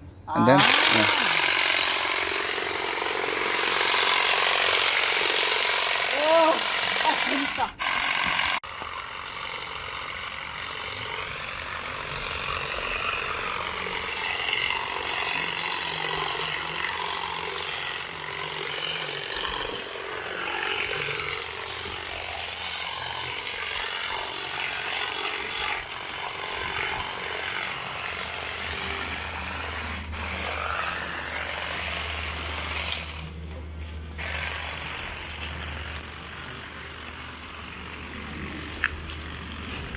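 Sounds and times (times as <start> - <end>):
lawn mower cutting grass: 0.6 - 39.9.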